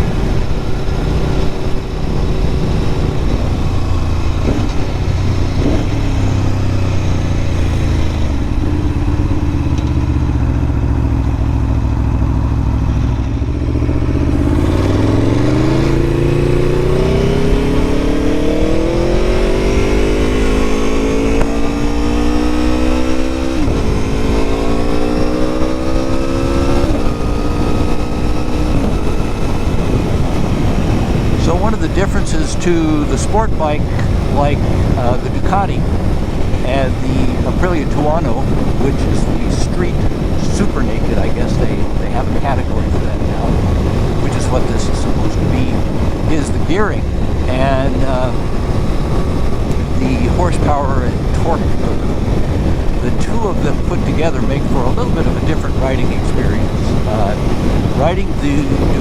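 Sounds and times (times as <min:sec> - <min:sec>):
motorcycle engine accelerating: 0:00.0 - 0:59.0
wind rush on microphone: 0:00.0 - 0:59.0.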